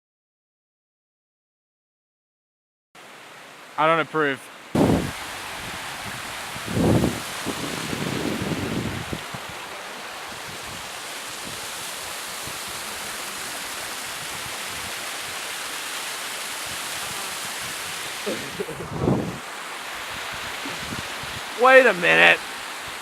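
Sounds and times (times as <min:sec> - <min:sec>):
rushing water: 0:03.0 - 0:23.0.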